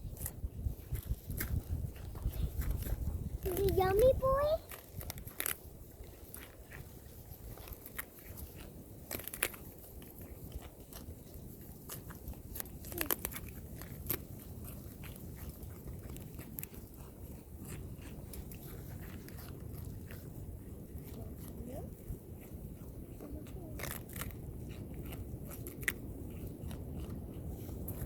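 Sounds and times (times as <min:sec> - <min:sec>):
animal crunching food: 0:00.0 - 0:28.0.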